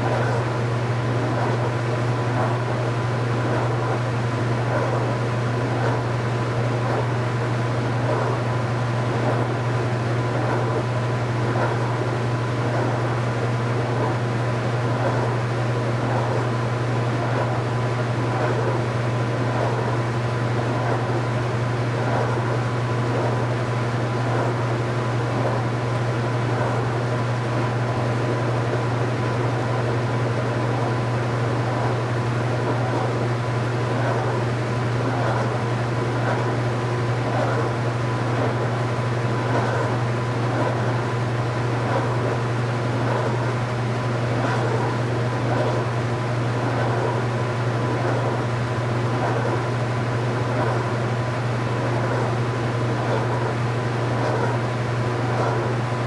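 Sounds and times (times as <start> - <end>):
faint constant whine: 0.0 - 56.0
washing machine humming: 0.0 - 56.0.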